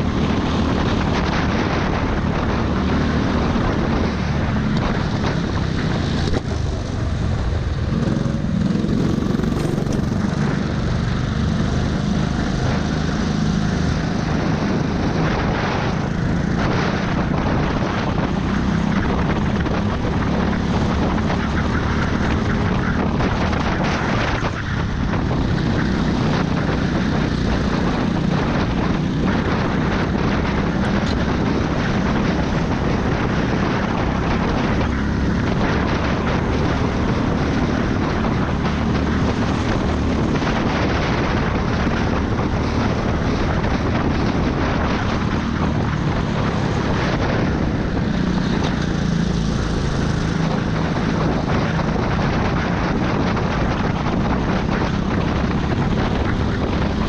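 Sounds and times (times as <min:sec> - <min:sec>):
drone of other karts: 0:00.0 - 0:57.0
kart engine running hard: 0:00.0 - 0:57.0
wind over microphone: 0:00.0 - 0:57.0.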